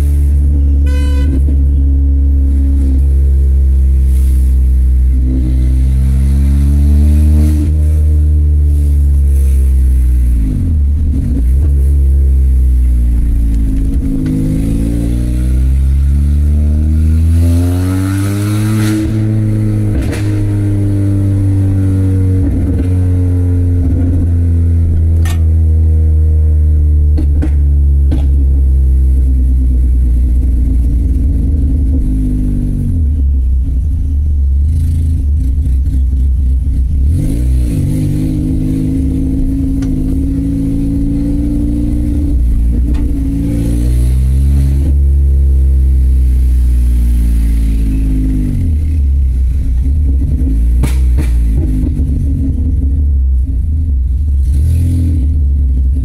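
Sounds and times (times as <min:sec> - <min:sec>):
loud car engine revving: 0:00.0 - 0:56.0.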